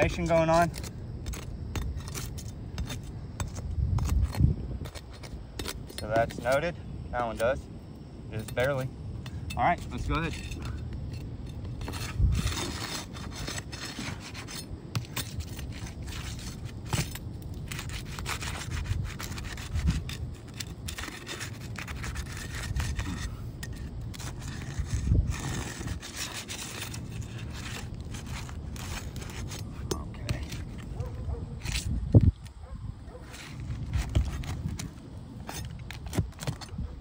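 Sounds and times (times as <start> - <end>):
pry bar scraping under shingles: 0.0 - 37.0.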